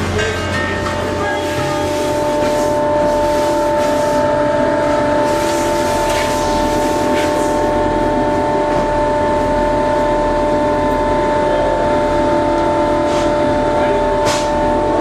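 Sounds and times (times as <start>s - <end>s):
boat machinery droning: 0.0s - 15.0s.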